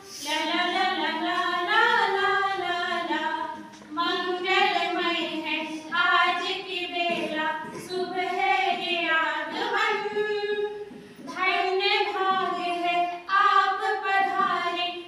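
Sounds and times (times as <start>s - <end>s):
women singing unaccompanied: 0.2s - 15.0s.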